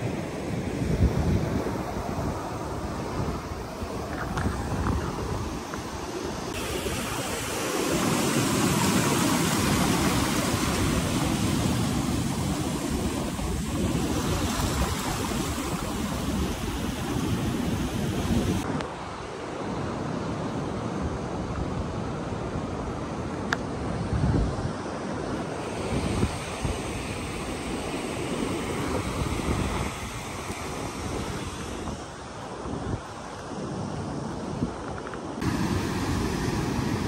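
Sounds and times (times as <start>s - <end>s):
ocean surf breaking on beach: 0.0s - 37.0s
wind rumbling on microphone: 0.0s - 37.0s.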